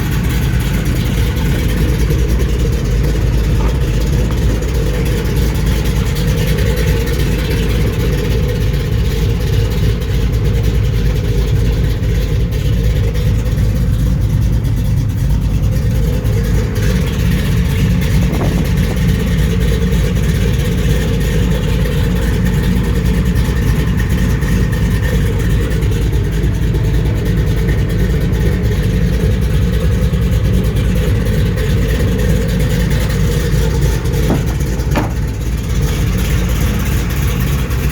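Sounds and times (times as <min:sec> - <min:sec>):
truck engine running: 0:00.0 - 0:37.9.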